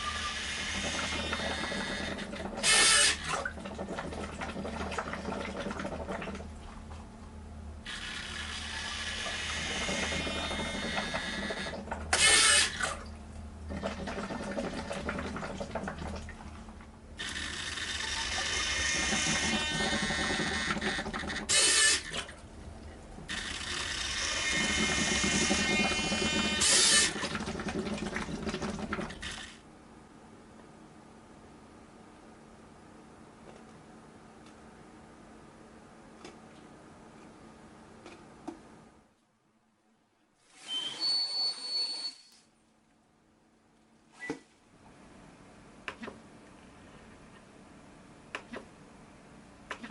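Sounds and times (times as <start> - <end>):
ventilator low hum: 0.0 - 41.1, 42.1 - 49.9.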